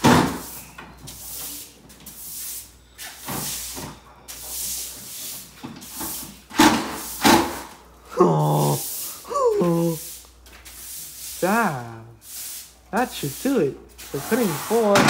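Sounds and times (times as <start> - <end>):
broom sweeping on paper: 0.4 - 7.4, 8.4 - 15.0.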